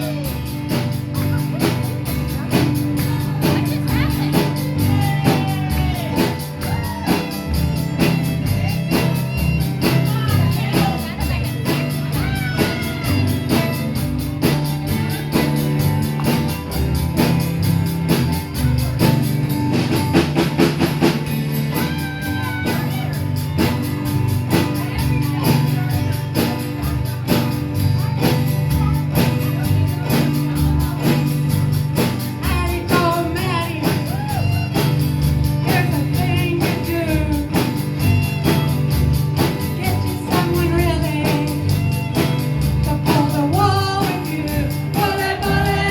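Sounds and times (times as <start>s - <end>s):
rock and roll song: 0.0s - 45.9s.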